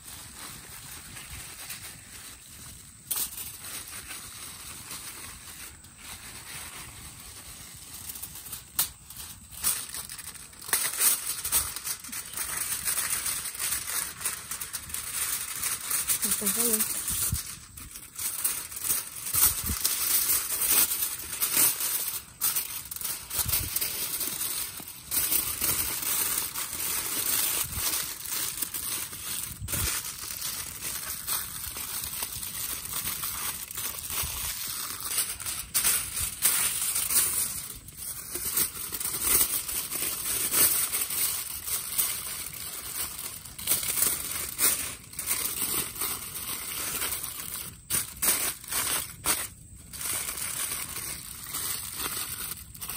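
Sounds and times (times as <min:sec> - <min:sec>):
aluminium foil crinkling: 0:00.0 - 0:52.9.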